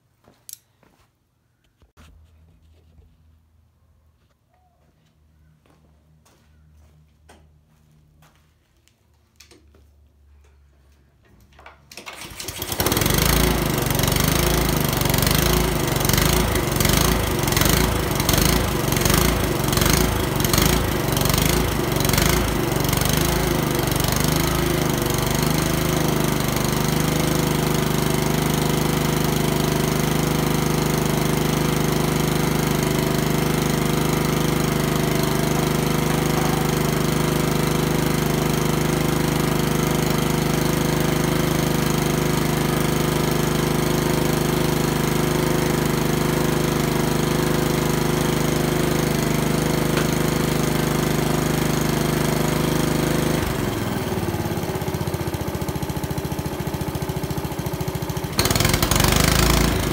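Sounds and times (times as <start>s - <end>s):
lawn mower engine running: 11.6s - 59.9s.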